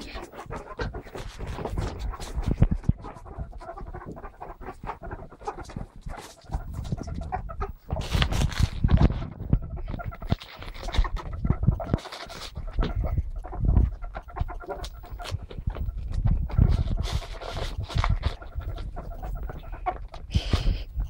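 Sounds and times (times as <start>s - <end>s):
ferrets dooking: 0.0s - 21.0s
ferrets pattering on rug: 0.0s - 21.0s.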